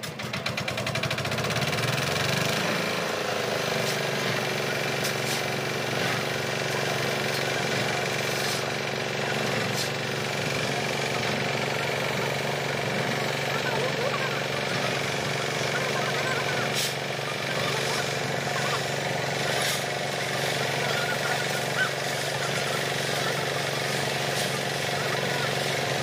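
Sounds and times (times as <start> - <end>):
concrete mixer engine running: 0.0 - 26.0.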